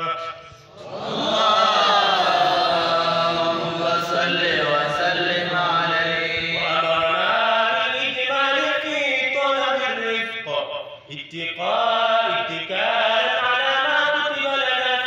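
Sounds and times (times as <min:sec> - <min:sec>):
man chanting into a microphone: 0:00.0 - 0:00.8, 0:02.8 - 0:15.0.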